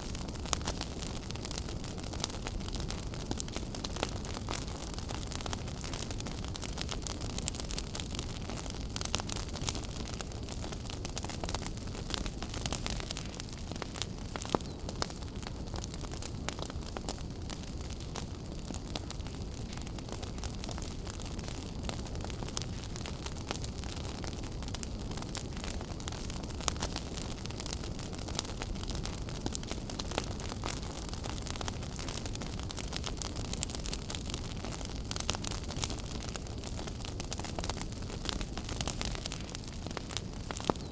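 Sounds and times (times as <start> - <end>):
fire rumbling and crackling: 0.0 - 40.9
loud fire pops: 0.1 - 40.9.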